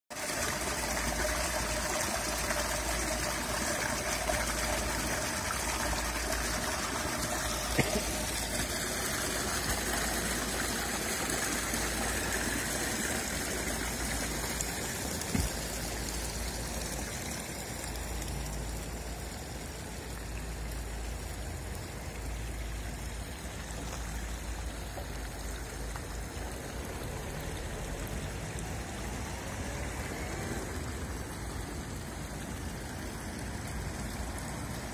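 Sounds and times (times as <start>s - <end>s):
fountain water splashing: 0.1s - 34.9s.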